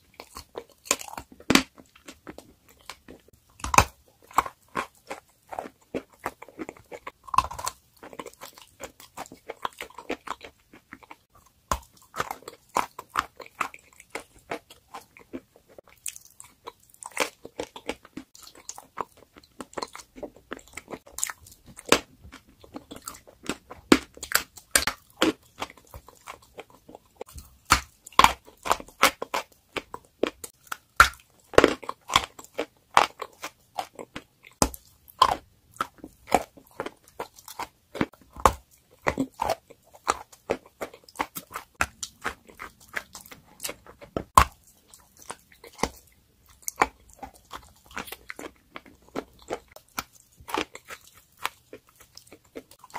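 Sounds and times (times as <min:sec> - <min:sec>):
chalk crunching when chewed: 0:00.0 - 0:52.9.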